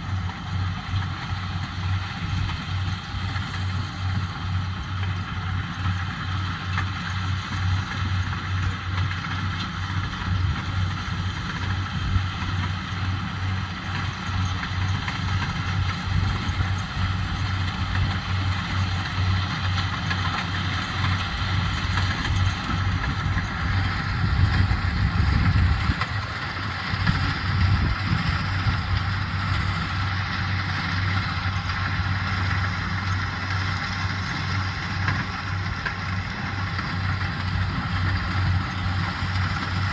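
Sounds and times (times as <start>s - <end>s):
harvesting machine engine drone: 0.0s - 39.9s.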